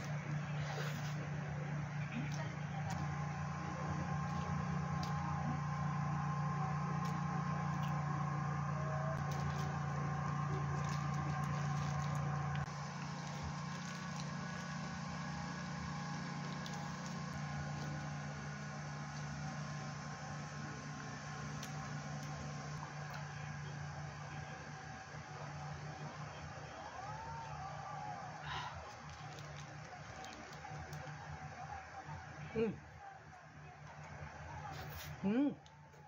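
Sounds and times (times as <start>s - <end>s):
low machine hum with held tones: 0.0s - 36.0s.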